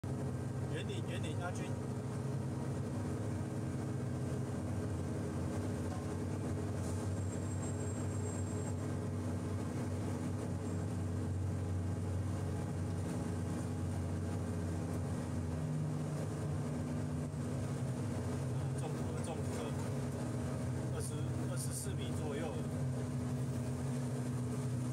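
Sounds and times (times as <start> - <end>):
rig engine droning: 0.0 - 24.9.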